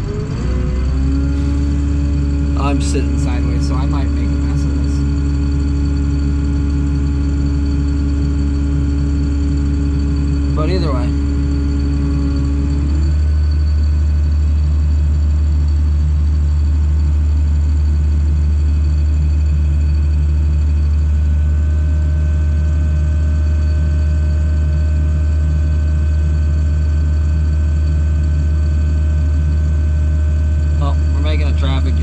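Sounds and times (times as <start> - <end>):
tractor engine drone: 0.0 - 32.0.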